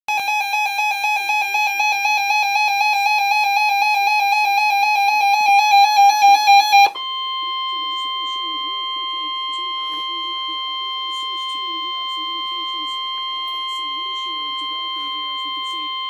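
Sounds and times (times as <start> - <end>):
shrill pulsing electronic alarm: 0.1 - 16.0
steady alarm tone: 0.1 - 16.0.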